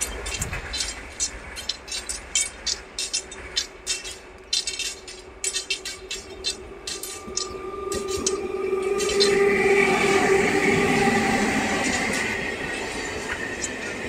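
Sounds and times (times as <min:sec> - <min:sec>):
electric train hum: 0:00.0 - 0:14.0
train wheels running: 0:00.0 - 0:14.0.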